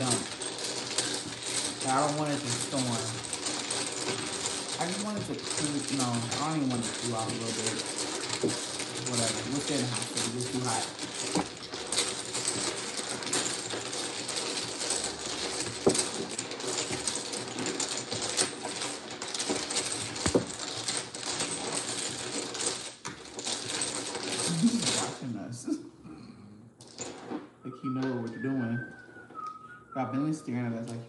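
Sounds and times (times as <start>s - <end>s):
dominoes clicking and clattering: 0.0s - 25.2s, 26.8s - 27.4s.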